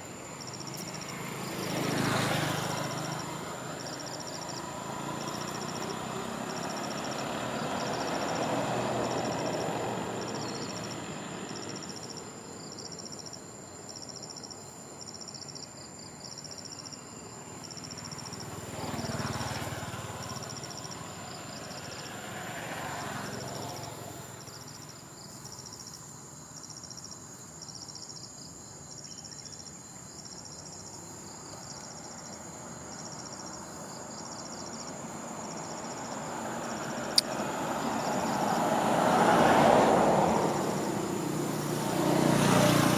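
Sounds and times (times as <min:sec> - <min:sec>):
vehicles passing: 0:00.0 - 0:13.3, 0:16.5 - 0:25.2, 0:30.4 - 0:42.9
insects chirping in high pulses: 0:00.0 - 0:42.9.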